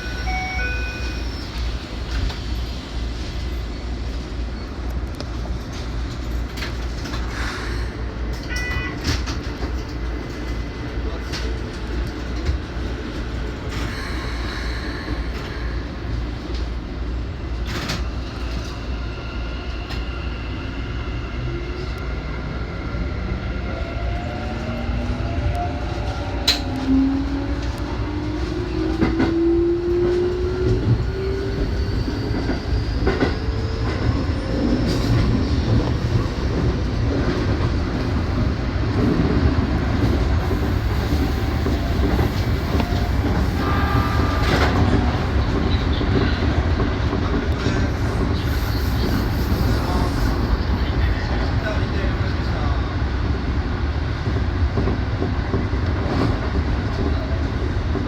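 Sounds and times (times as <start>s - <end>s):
electric train rumble: 0.0s - 58.0s.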